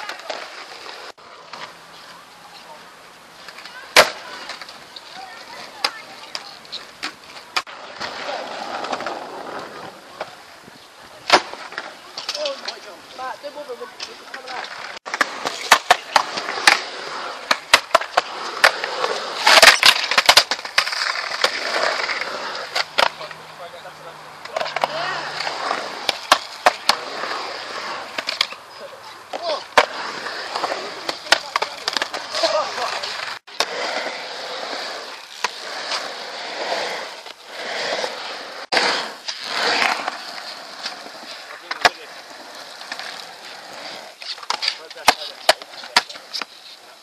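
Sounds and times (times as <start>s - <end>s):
skateboard wheels rolling on concrete: 0.0s - 47.0s.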